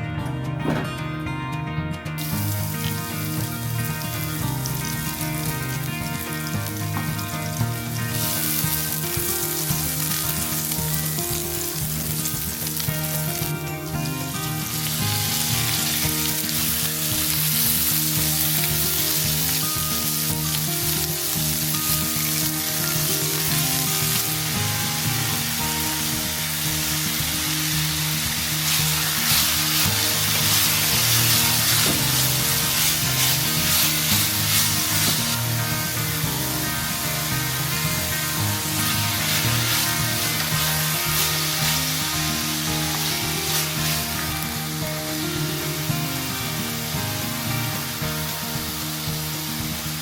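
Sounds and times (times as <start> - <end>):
background music: 0.0 - 50.0
food sizzling in a pan: 2.2 - 50.0.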